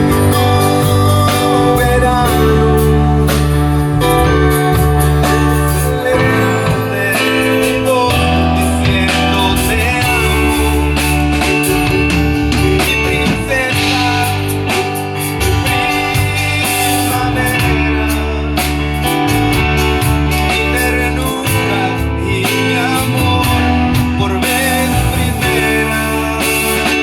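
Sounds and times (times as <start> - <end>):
bass guitar: 0.0 - 27.0
drums: 0.0 - 27.0
electric guitar: 0.0 - 27.0
person singing: 0.0 - 27.0.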